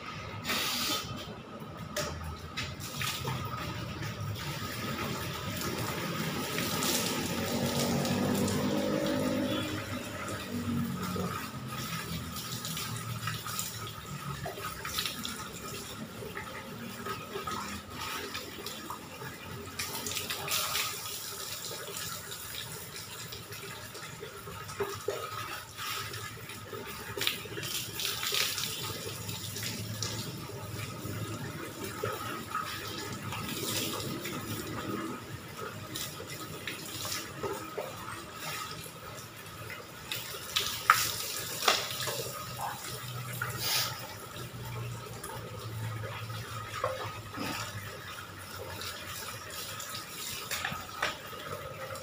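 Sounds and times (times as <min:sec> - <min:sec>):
water poured onto concrete floor: 0:02.0 - 0:52.0.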